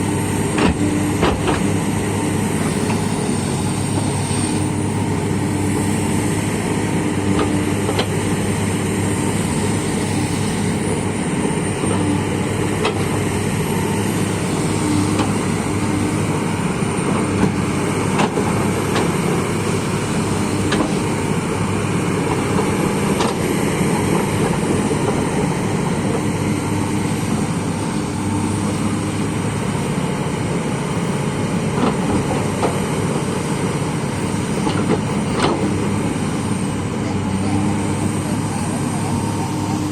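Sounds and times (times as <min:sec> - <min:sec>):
diesel machinery humming: 0:00.0 - 0:39.9.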